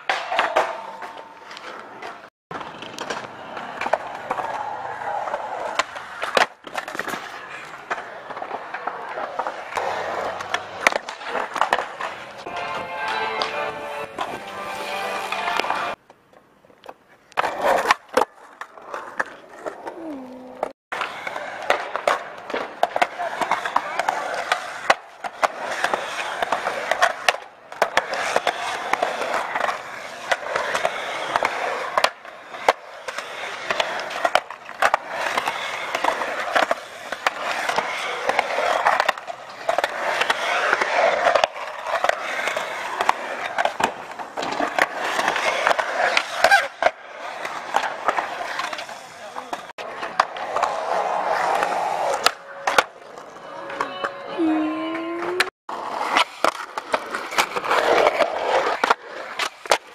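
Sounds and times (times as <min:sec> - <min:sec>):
skateboard popping and landing: 0:00.0 - 0:54.1, 0:55.2 - 0:59.9
skateboard wheels rolling on concrete: 0:00.0 - 0:59.9.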